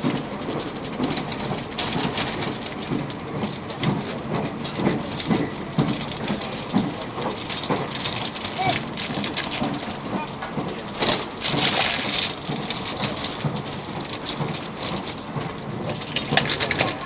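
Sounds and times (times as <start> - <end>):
train rushing noise: 0.0 - 17.0.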